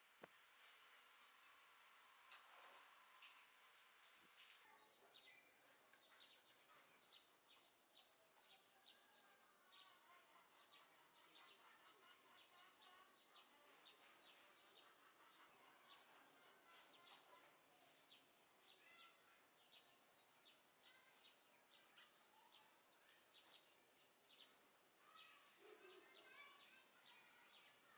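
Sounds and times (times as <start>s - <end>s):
small songbirds chirping: 0.0s - 27.9s.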